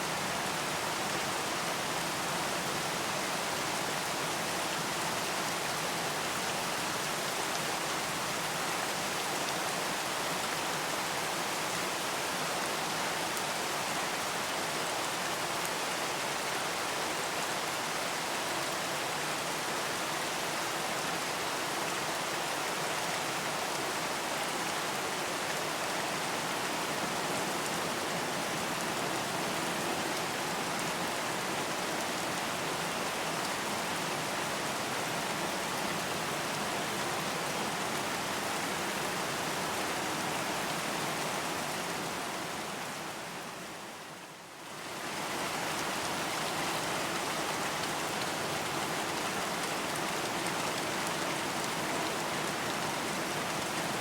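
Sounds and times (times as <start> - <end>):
dense rain pattering: 0.0 - 54.0.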